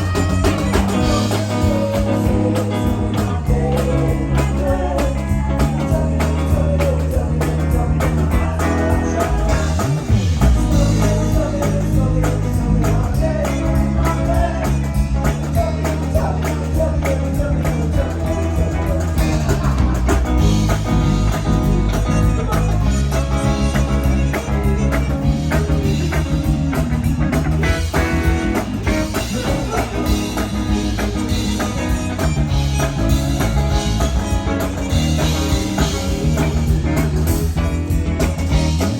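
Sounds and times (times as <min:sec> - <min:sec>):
bass line: 0:00.0 - 0:38.9
guitar: 0:00.0 - 0:38.9
live blues-rock band: 0:00.0 - 0:38.9.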